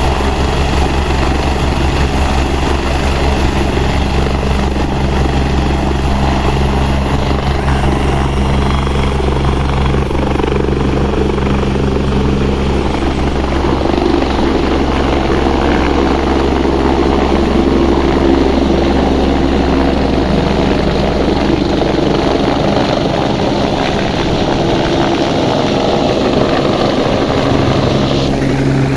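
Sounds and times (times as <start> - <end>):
helicopter rotor and turbine whine: 0.0 - 28.9.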